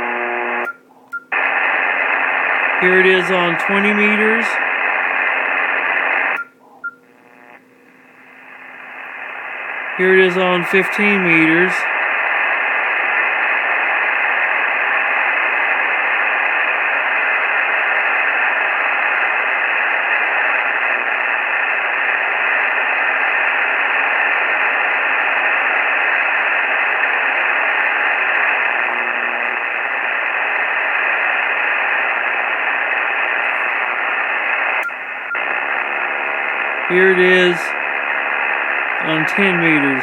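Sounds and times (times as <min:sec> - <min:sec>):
radio receiver noise: 0:00.0 - 0:40.0.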